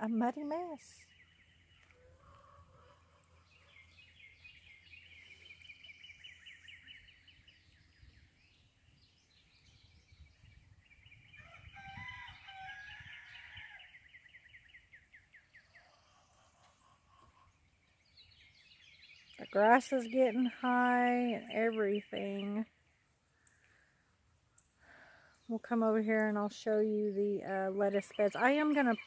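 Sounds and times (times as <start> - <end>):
birds trilling: 0.9 - 24.0, 27.4 - 29.0.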